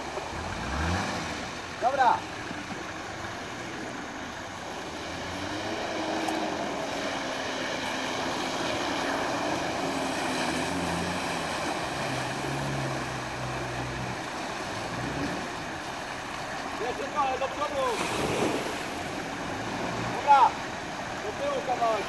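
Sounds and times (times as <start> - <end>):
flowing water rushing: 0.0 - 22.0
off-road engines running: 0.0 - 22.0
vehicle pushing wave of water: 0.0 - 22.0.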